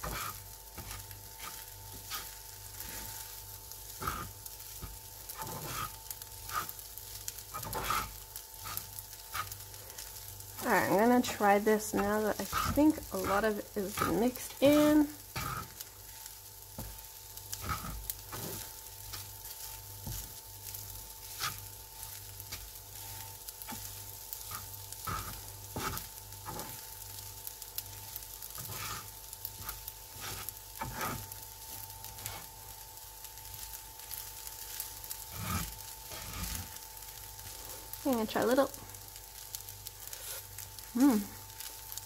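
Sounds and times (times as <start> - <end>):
fried rice sizzling in a pan: 0.0 - 42.0.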